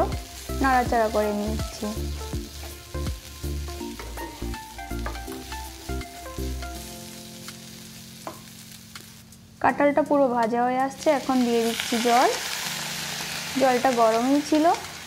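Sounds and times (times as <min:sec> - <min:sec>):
food sizzling in oil: 0:00.0 - 0:15.0
soft background music: 0:00.0 - 0:15.0.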